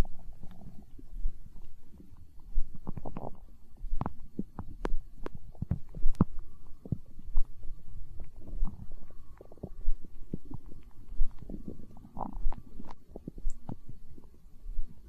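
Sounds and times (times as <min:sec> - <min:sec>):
stomach gurgling and rumbling: 0:00.0 - 0:15.0.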